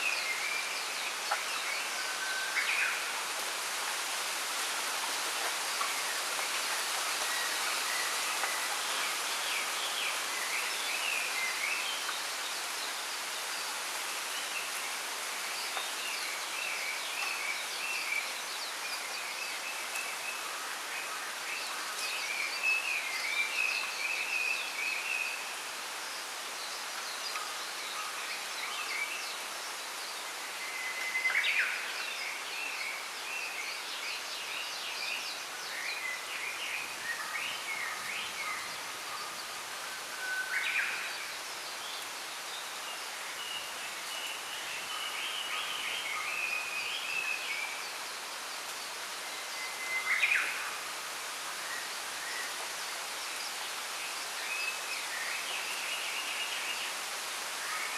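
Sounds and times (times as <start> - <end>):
wind rustling bamboo: 0.0 - 57.9.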